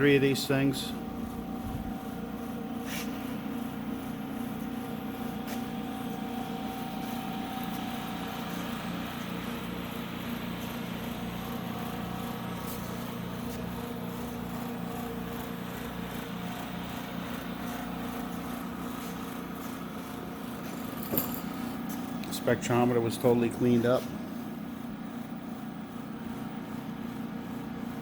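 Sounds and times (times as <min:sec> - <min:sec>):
vacuum pumps humming: 0:00.0 - 0:28.0.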